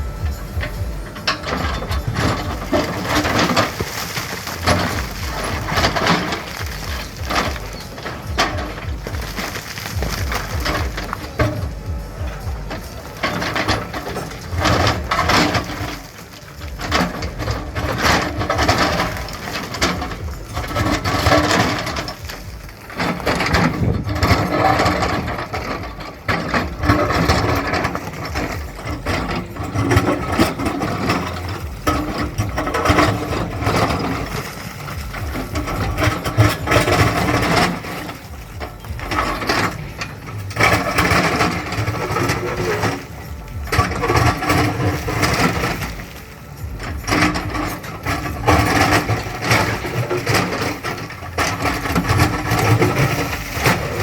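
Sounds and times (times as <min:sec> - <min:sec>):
bucket knocking and scraping: 0:00.0 - 0:54.0
diesel engine under load: 0:00.0 - 0:54.0.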